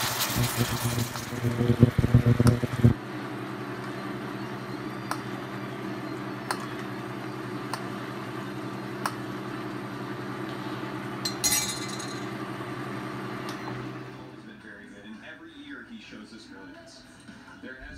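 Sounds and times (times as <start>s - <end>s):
steady mechanical hum: 0.0s - 17.9s.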